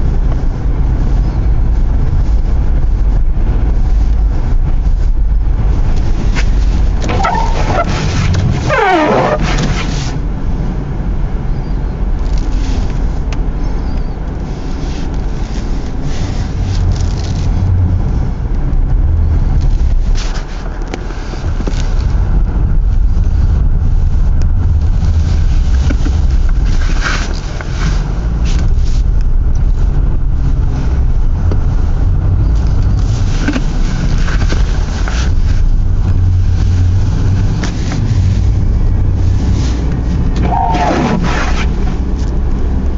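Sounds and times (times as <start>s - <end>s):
road and wind noise rumble: 0.0s - 42.9s.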